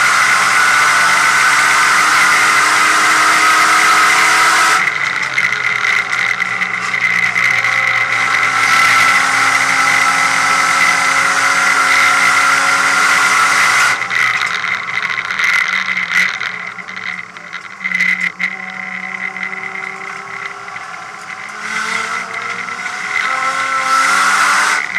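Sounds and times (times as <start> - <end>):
race car engine at high revs: 0.0 - 24.9.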